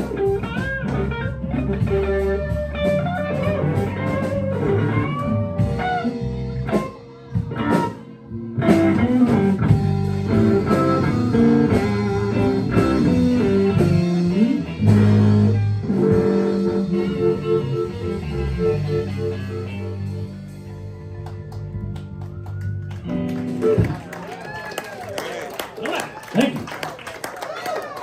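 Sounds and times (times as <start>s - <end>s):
guitar notes and runs: 0.0s - 25.7s
blues band playing: 0.0s - 28.0s.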